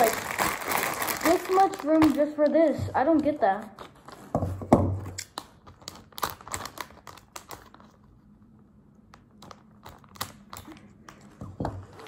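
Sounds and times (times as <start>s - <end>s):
plastic crinkling: 0.0s - 4.3s, 5.1s - 8.3s, 9.2s - 12.0s.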